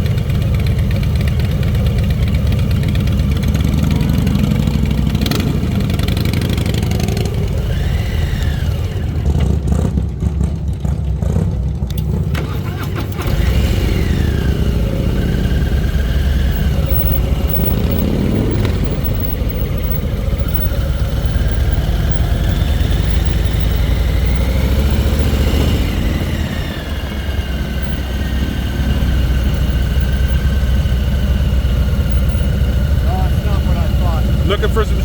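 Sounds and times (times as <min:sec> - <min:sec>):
bike drive whining: 0:00.0 - 0:35.0.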